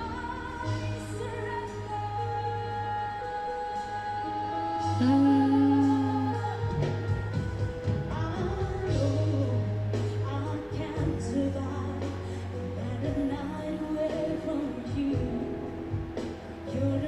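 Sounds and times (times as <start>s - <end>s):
pop ballad band accompaniment: 0.0s - 17.0s
steady bass: 0.0s - 17.0s
woman singing: 0.0s - 17.0s.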